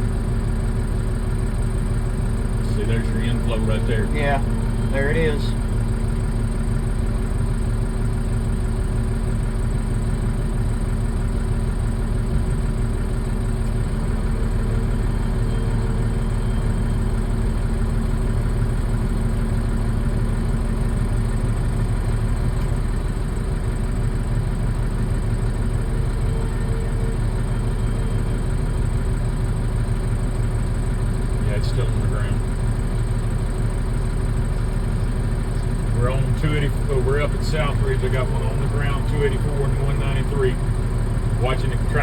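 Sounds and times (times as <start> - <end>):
vehicle engine idling: 0.0 - 42.0.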